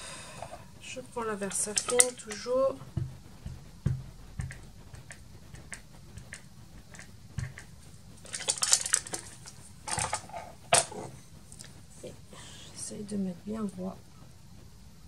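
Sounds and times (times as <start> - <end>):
rustling: 0.4 - 12.8.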